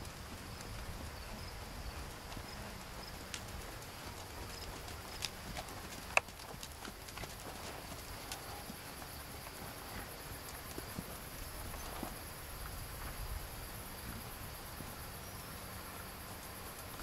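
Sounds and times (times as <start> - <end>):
horse trotting on sand: 0.0 - 17.0.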